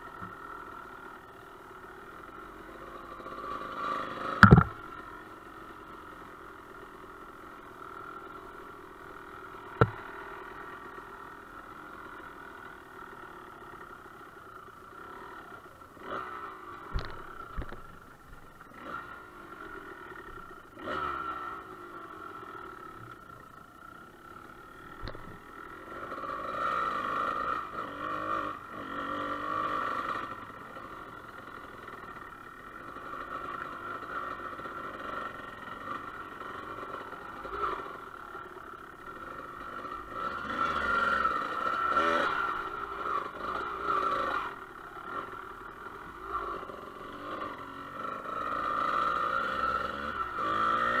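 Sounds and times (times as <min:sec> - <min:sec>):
dirt bike engine revving: 0:02.0 - 0:12.8, 0:15.0 - 0:17.8, 0:18.6 - 0:22.9, 0:24.7 - 0:51.0.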